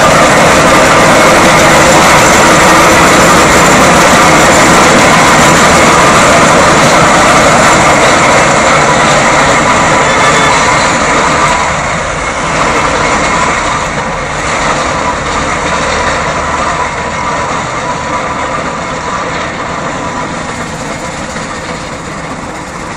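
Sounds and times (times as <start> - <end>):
road traffic: 0.0 - 22.9
steam roller moving away: 0.0 - 22.9.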